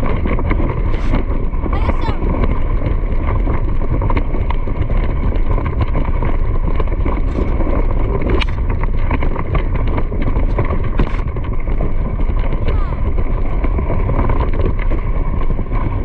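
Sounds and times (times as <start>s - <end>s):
clicks and rattles of movement: 0.0s - 16.0s
wind buffeting microphone: 0.0s - 16.0s.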